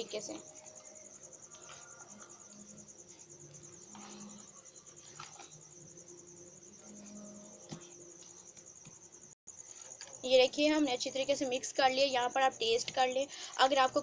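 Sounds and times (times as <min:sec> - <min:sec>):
cricket trilling: 0:00.0 - 0:14.0.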